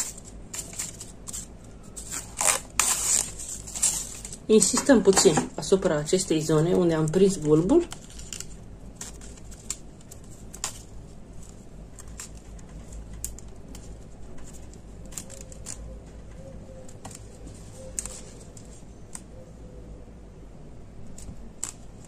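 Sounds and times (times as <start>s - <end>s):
crepe paper crinkling: 0.0s - 19.3s.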